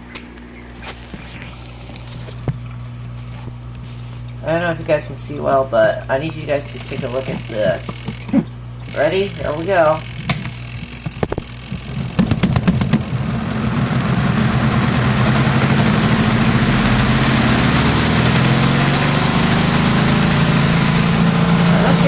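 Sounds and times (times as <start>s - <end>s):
spin dryer motor hum: 0.0s - 22.0s.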